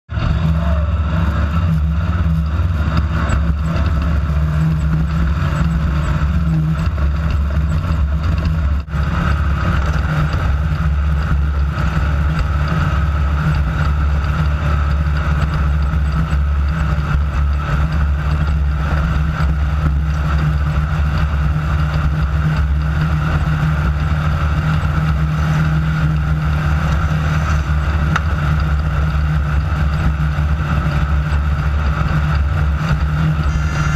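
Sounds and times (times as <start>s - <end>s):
race car engine droning: 0.0s - 33.9s.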